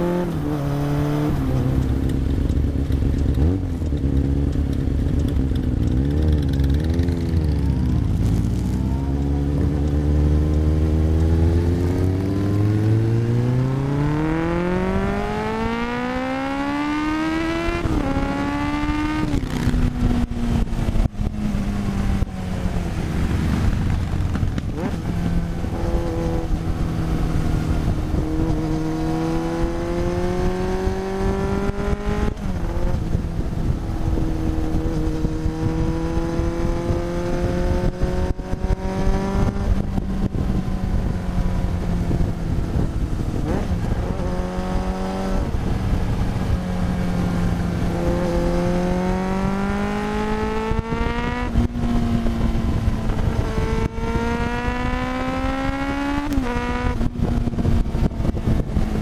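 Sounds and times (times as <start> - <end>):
low wind-like rumble: 0.0 - 59.0
motorcycle engine revving: 0.0 - 59.0.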